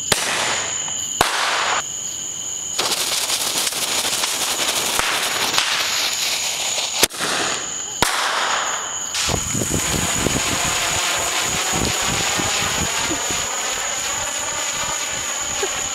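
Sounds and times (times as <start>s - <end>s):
sharp firework pops: 0.0s - 1.8s, 2.8s - 15.9s
firework spraying sparks hissing: 2.7s - 15.9s.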